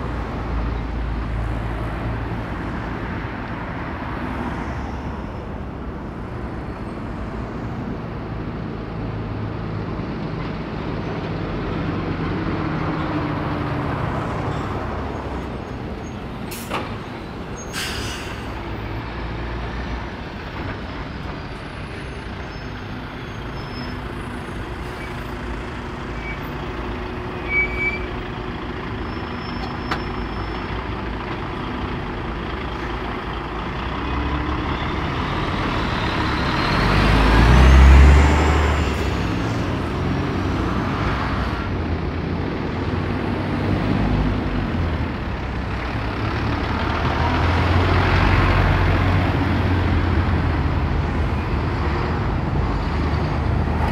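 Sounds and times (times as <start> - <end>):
road traffic driving past: 0.0 - 53.9.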